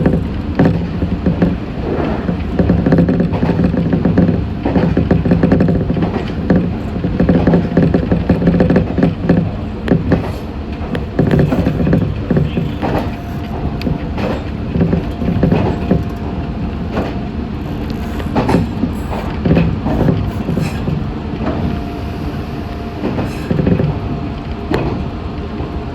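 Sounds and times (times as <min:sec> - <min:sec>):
wheels clacking over rail joints: 0:00.0 - 0:25.2
electric train rumble: 0:00.0 - 0:25.9.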